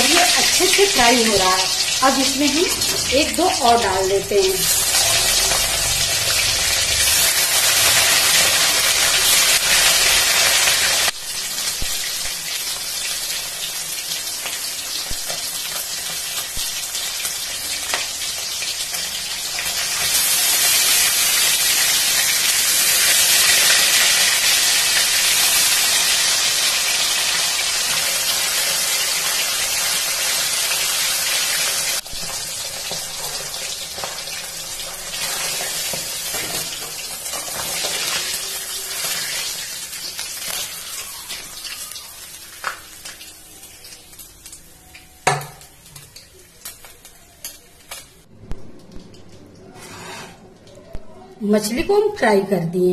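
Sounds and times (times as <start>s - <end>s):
fish sizzling in hot oil: 0.0s - 48.3s.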